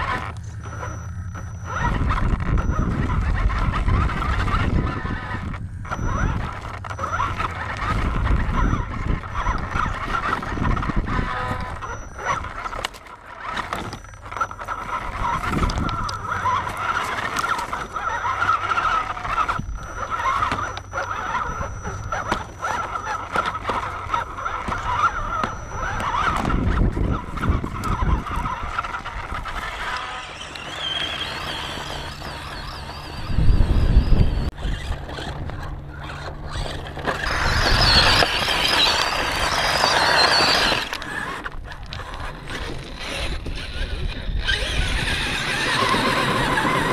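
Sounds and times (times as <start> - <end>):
electric motor and gears whining: 0.0 - 46.9
low rumbles: 0.0 - 46.9.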